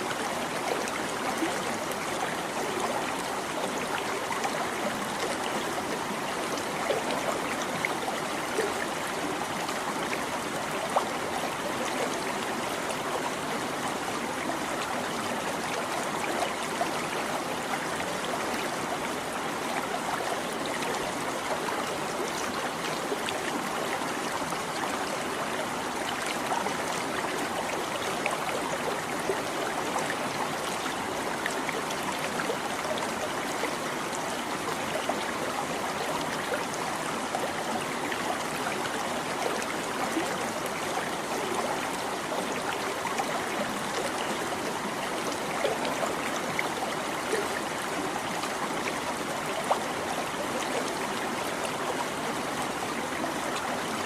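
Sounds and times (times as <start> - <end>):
stream babbling: 0.0 - 54.0.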